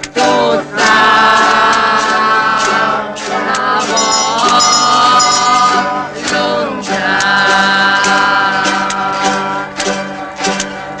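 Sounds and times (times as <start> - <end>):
guitar accompaniment: 0.0 - 11.0
person singing long notes: 0.7 - 9.8.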